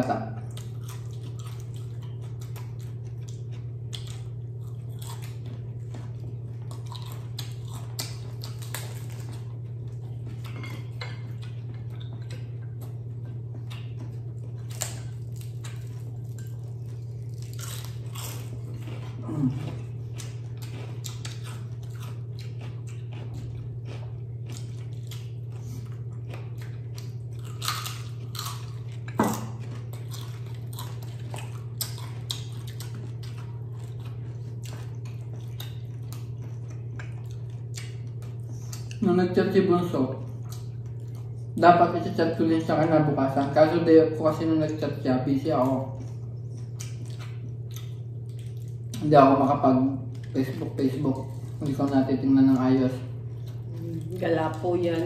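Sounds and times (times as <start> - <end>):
crunching and chewing fried chicken: 0.0 - 55.0
steady low hum: 0.0 - 55.0.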